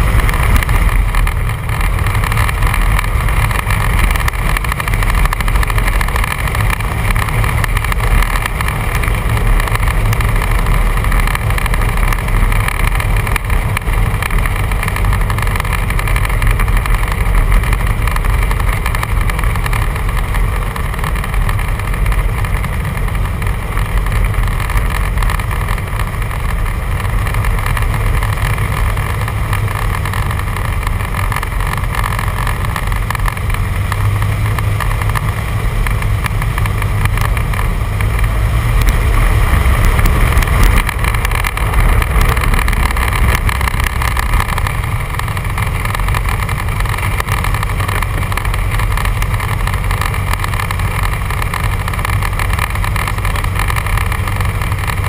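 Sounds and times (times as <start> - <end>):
light aircraft engine running: 0.0 - 55.0.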